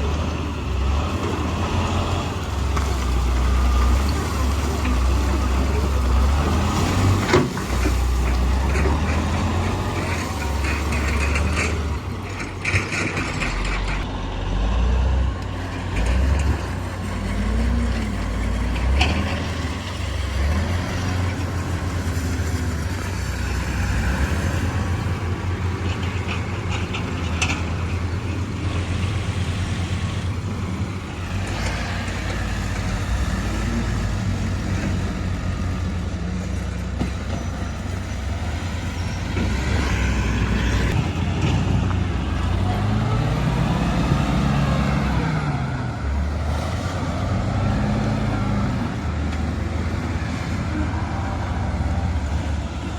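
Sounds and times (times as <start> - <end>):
diesel earthmoving machinery running: 0.0 - 52.9.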